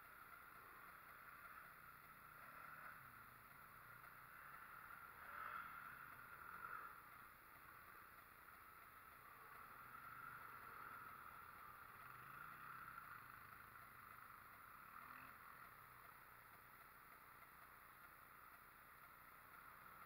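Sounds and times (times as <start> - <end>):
distant atv engine running: 0.0 - 20.0.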